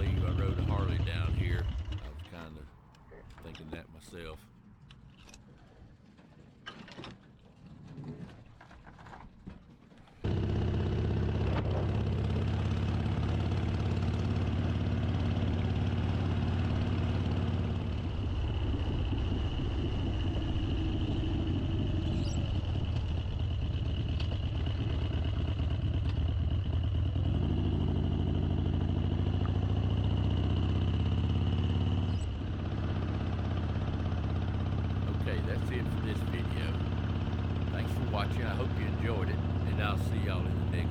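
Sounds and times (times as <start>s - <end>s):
motorcycle engine running: 0.0s - 3.6s, 10.2s - 40.9s.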